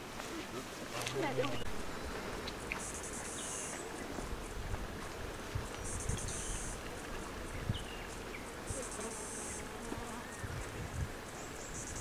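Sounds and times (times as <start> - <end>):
insect buzzing in pulsed bursts: 1.7 - 12.0.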